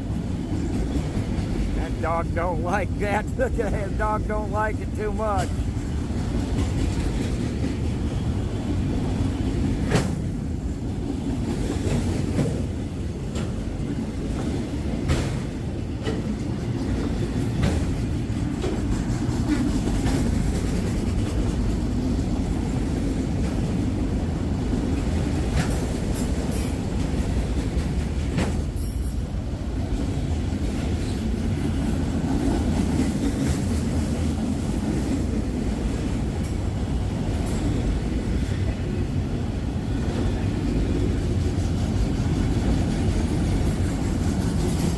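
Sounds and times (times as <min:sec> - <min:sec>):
freight train rumbling on rails: 0:00.0 - 0:44.9.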